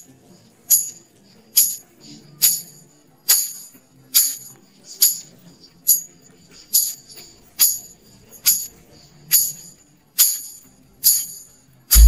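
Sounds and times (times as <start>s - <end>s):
music with jingling tambourine beat: 0.7s - 1.0s, 1.6s - 12.0s.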